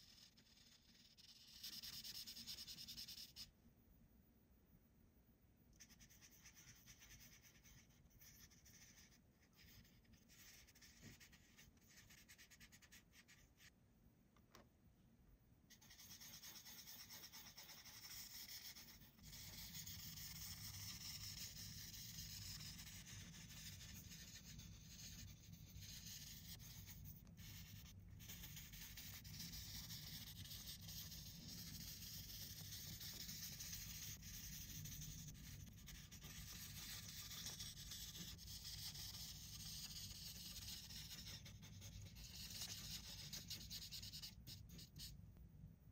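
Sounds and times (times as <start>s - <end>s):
marker rubbing on paper: 0.0s - 3.5s, 5.8s - 13.7s, 15.7s - 45.2s.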